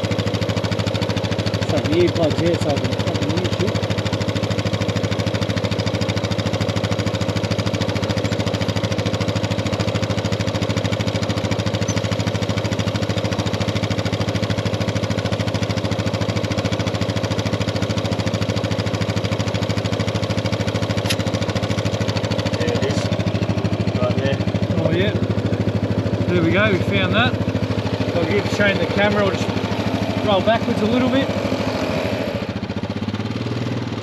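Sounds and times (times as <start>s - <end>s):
air compressor chattering: 0.0s - 34.0s
vehicle engine idling: 0.0s - 34.0s.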